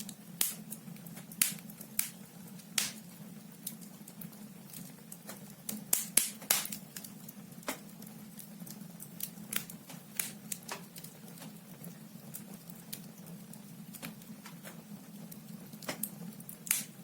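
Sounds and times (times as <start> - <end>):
logs crackling in a fireplace: 0.0 - 17.0.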